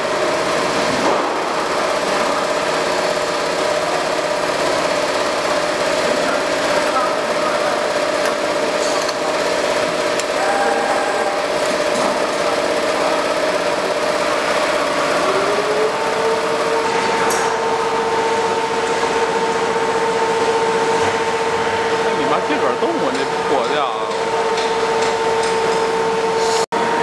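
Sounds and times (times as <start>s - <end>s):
machine whir and hiss: 0.0s - 27.0s
steady machine hum: 0.0s - 27.0s.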